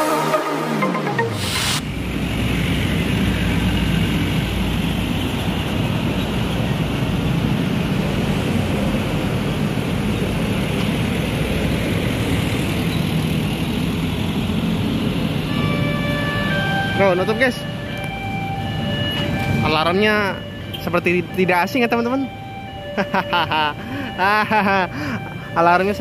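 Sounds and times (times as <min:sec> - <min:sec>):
dump truck driving: 0:00.0 - 0:26.0
road rumble: 0:01.4 - 0:26.0
cars and motorbikes passing: 0:01.6 - 0:26.0.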